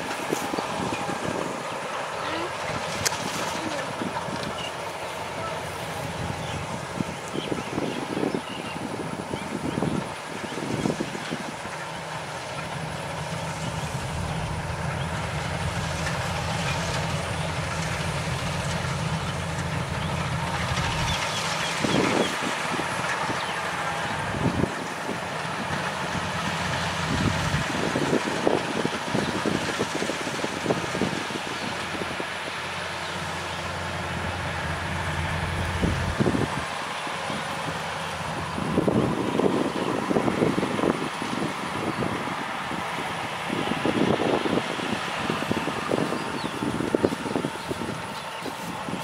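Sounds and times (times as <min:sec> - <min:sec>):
harvester engine humming: 0:00.0 - 0:49.0.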